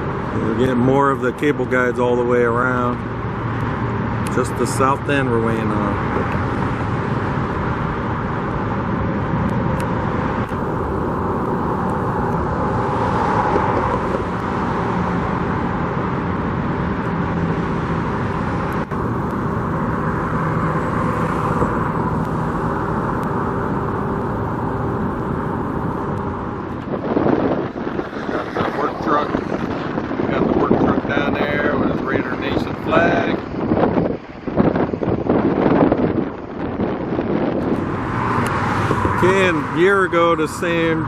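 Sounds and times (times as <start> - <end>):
road traffic passing: 0.0 - 41.0.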